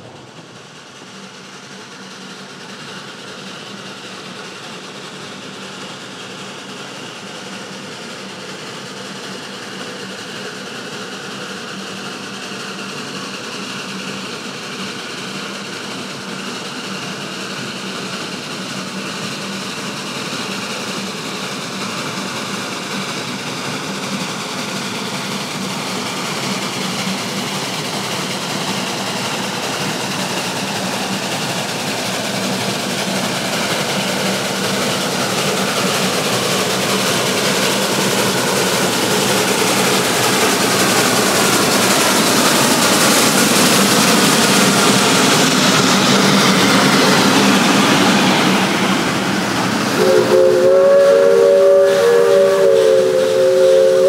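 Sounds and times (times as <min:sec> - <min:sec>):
steam locomotive running: 0:00.0 - 0:54.0.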